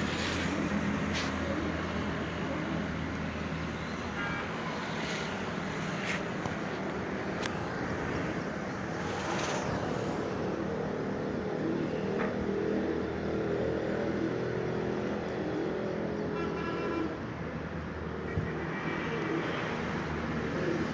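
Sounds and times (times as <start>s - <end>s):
road traffic noise: 0.0s - 20.9s.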